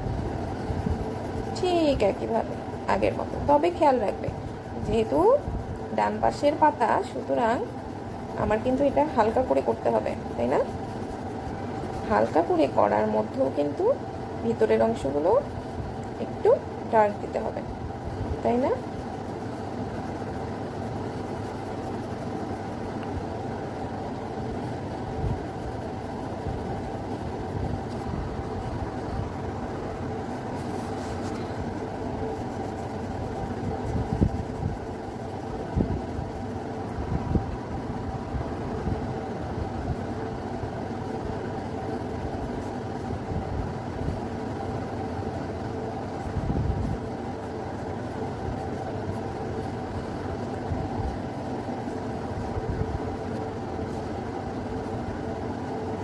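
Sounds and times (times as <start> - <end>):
mechanical hum: 0.0 - 56.0.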